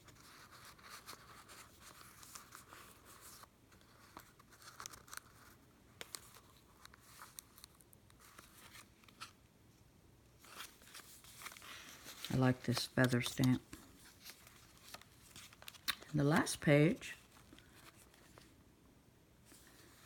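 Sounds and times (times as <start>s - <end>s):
paper rustling: 0.0s - 9.4s, 10.4s - 18.5s.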